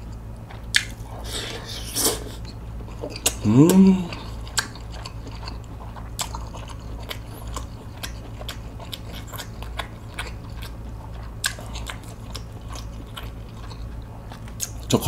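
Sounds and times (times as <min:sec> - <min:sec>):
low hum: 0:00.0 - 0:15.0
person chewing noodles: 0:00.0 - 0:15.0.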